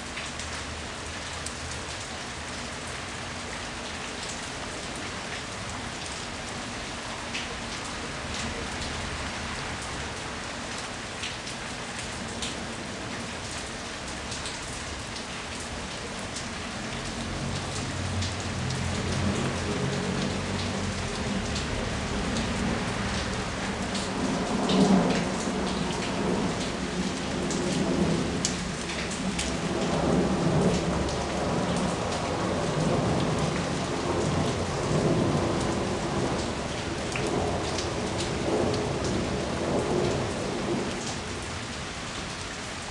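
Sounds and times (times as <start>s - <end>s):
rain falling: 0.0s - 42.9s
raindrops pattering close by: 0.0s - 42.9s.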